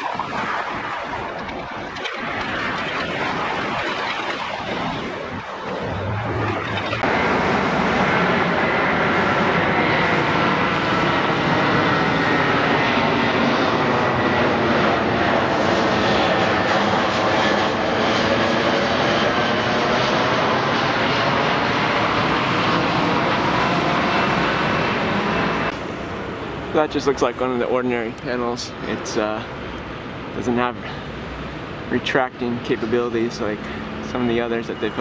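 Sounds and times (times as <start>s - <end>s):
airplane flying overhead: 0.0s - 35.0s.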